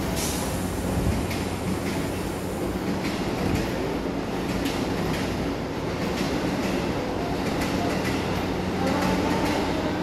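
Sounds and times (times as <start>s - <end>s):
train wheels clicking: 0.0s - 9.7s.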